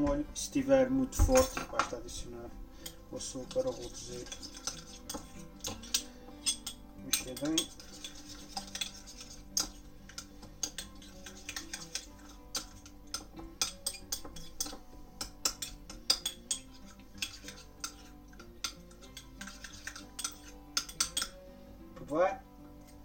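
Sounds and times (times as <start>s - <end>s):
quiet background music: 0.0s - 23.0s.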